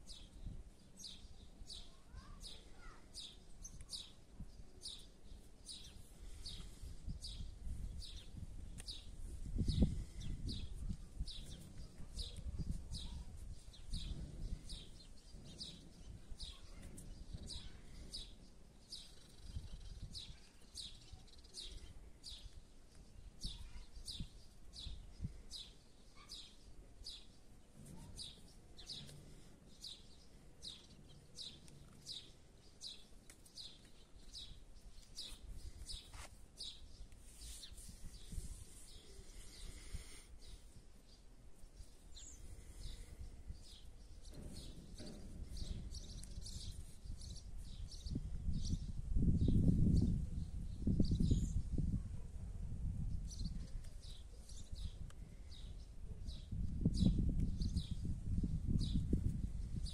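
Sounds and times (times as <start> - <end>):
small bird chirping: 0.0 - 51.9.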